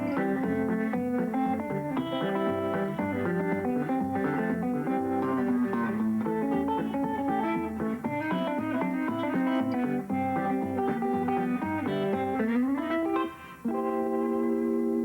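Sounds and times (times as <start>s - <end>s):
fingerpicked guitar: 0.0s - 15.0s.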